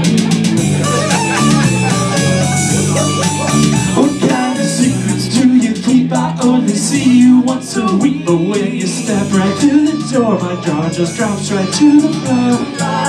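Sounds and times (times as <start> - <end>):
bass guitar notes: 0.0 - 13.0
drum machine beat: 0.0 - 13.0
electric guitar: 0.0 - 13.0.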